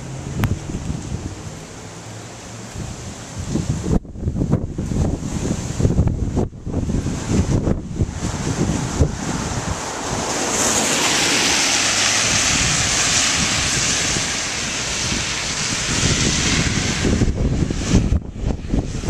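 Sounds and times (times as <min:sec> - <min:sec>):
wind buffeting microphone: 0:00.0 - 0:01.7, 0:02.7 - 0:19.0.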